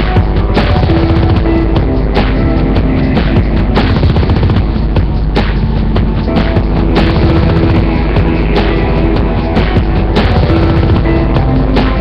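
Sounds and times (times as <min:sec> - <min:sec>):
loud rock music with drums: 0:00.0 - 0:12.0.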